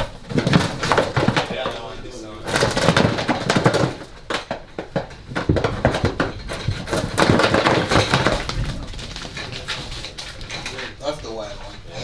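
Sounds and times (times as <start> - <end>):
deer hooves clattering on hard floor: 0.0 - 12.0.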